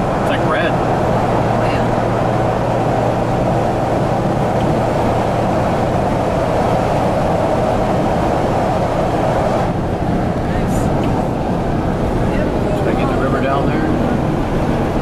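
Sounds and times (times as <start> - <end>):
car road noise in tunnel: 0.0 - 15.0.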